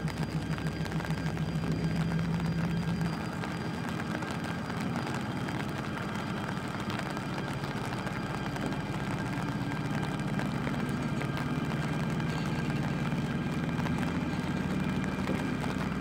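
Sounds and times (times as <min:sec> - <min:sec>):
locomotive engine humming: 0:00.0 - 0:16.0
train wheels rolling on rails: 0:00.0 - 0:16.0.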